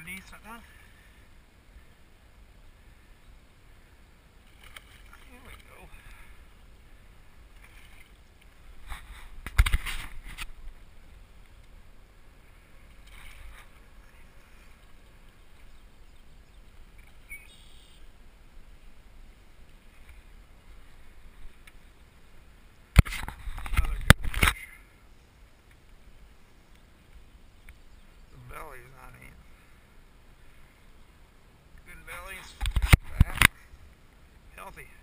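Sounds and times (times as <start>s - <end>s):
quiet water noise: 0.0s - 35.0s.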